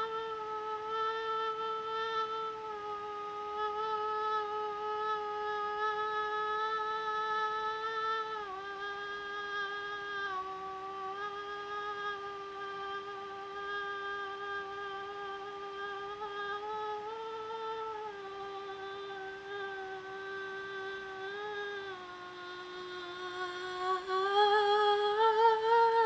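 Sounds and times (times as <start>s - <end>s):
woman singing a long note: 0.0s - 26.0s.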